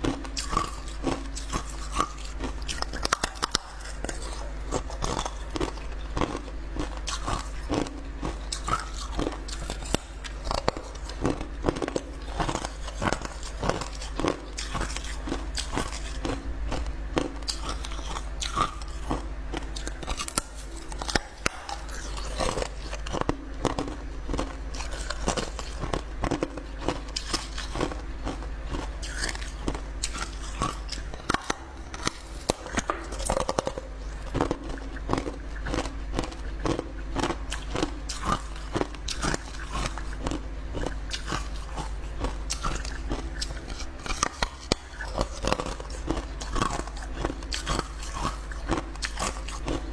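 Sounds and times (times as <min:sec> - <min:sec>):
ice crunching while chewed: 0:00.0 - 0:49.9
low steady hum: 0:00.0 - 0:49.9.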